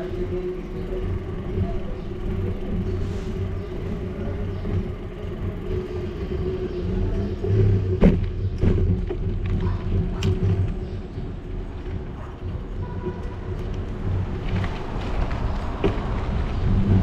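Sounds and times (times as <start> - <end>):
bicycle rolling over brick paving: 0.0 - 17.0.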